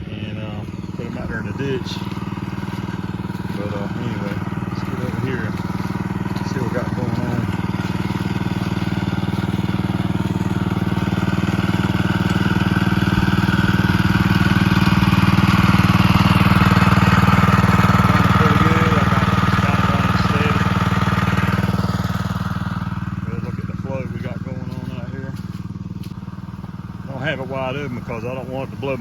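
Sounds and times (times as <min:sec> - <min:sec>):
small gasoline engine running: 0:00.0 - 0:29.0.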